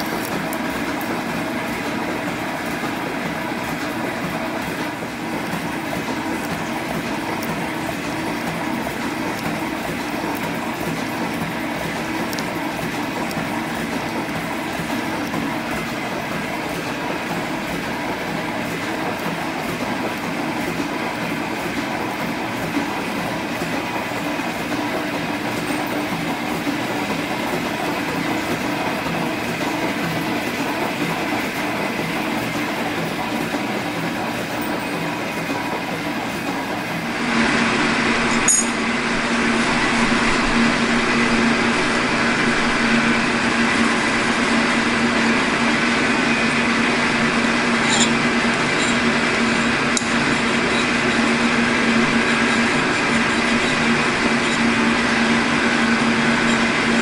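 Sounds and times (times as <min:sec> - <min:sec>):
metal shaper cutting: 0:00.0 - 0:33.8, 0:38.1 - 0:39.1, 0:45.6 - 0:57.0
low machine hum: 0:00.0 - 0:57.0.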